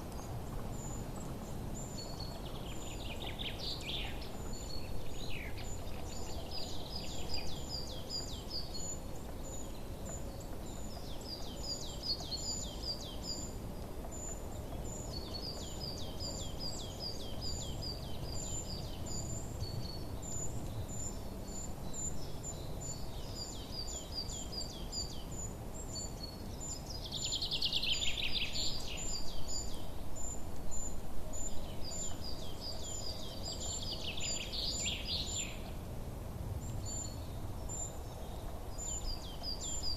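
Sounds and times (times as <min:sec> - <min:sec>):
low outdoor background rush: 0:00.0 - 0:39.9
songbirds chirping: 0:00.0 - 0:39.9.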